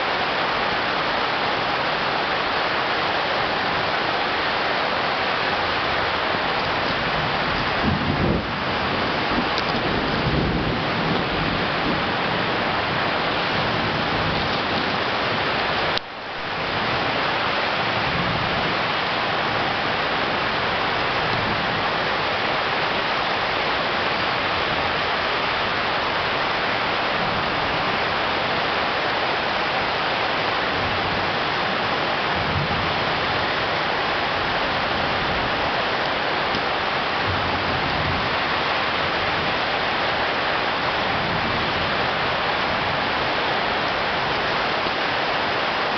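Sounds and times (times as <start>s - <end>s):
running storm water: 0.0s - 45.9s
torrential rain hissing: 0.0s - 45.9s.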